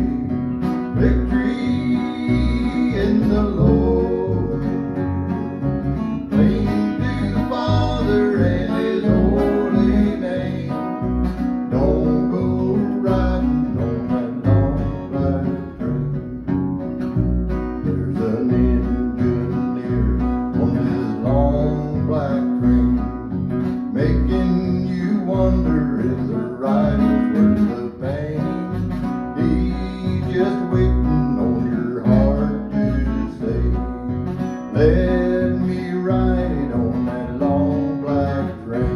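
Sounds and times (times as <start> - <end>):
plucked upright bass: 0.0 - 38.9
strummed acoustic guitar: 0.0 - 38.9
man singing: 0.8 - 5.4, 6.2 - 16.2, 17.8 - 38.9.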